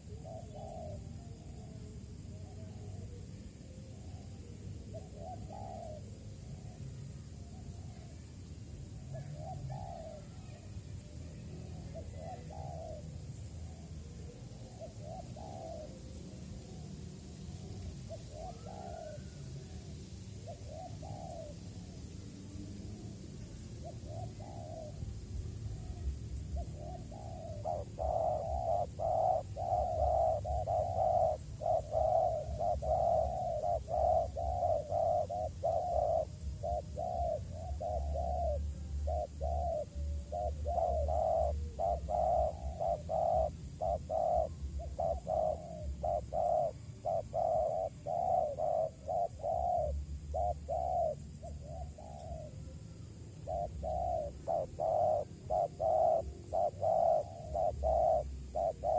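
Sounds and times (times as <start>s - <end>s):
doves cooing: 0.0s - 58.9s.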